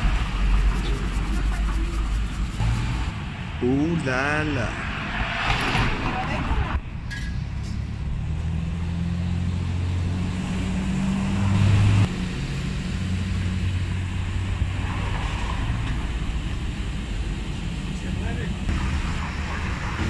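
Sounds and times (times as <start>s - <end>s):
motor vehicle engine hum: 0.0s - 4.0s, 6.0s - 20.0s.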